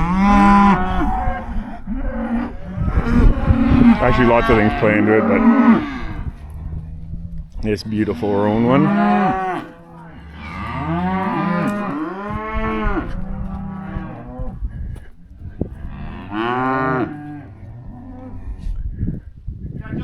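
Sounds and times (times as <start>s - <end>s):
cattle mooing: 0.0s - 18.7s.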